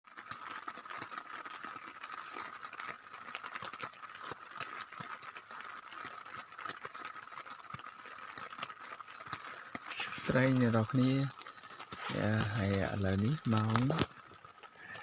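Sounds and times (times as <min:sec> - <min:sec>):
light rain dripping: 0:00.1 - 0:15.0.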